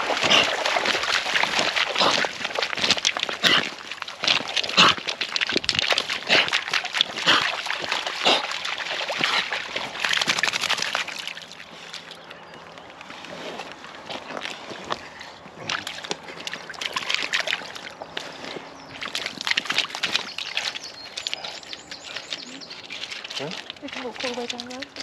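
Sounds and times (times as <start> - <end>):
dogs splashing through water: 0.0 - 25.0.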